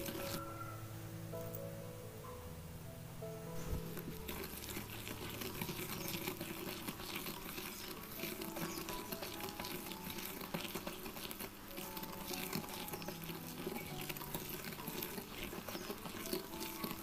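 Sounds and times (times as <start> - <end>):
whisk scraping glass bowl: 0.0 - 0.7, 3.6 - 17.0
background music: 0.0 - 17.0.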